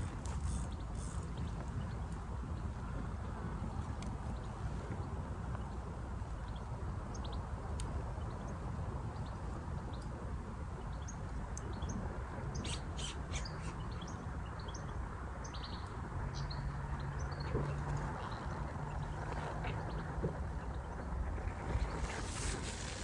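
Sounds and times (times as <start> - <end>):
small birds chirping: 0.0 - 10.2, 10.8 - 23.0
low outdoor rush: 0.0 - 23.0.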